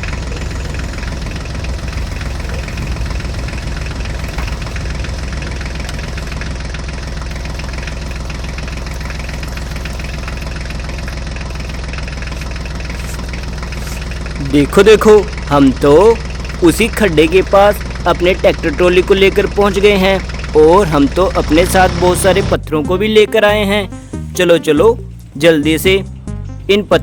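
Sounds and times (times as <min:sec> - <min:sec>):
toy tractor engine chugging: 0:00.0 - 0:27.0.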